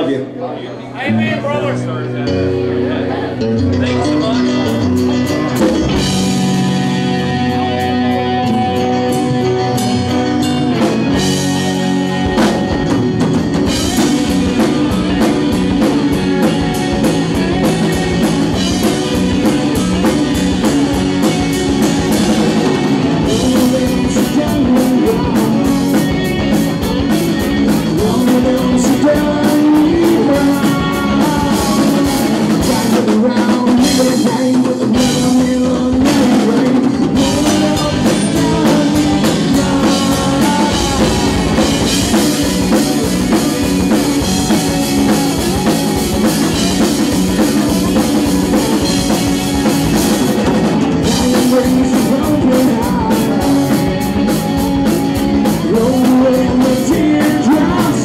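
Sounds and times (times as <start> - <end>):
bass guitar: 0.0 - 58.0
electric and acoustic guitars: 0.0 - 58.0
drum kit: 1.4 - 58.0
lap steel guitar: 1.8 - 58.0.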